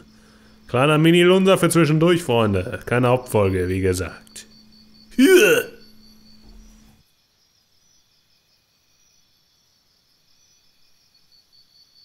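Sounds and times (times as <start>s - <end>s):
faint high chirping: 0.0s - 12.0s.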